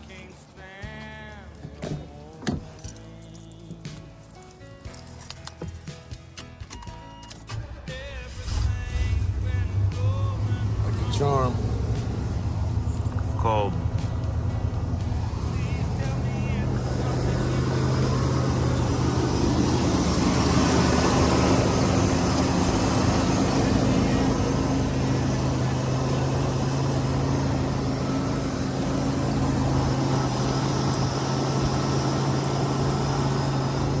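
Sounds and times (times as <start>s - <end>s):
pickup engine idling: 0.0s - 6.2s, 7.5s - 34.0s.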